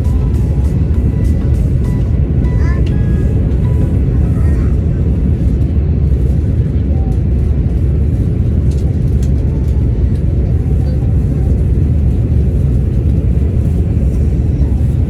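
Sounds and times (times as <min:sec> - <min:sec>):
train rumble from inside: 0:00.0 - 0:15.0.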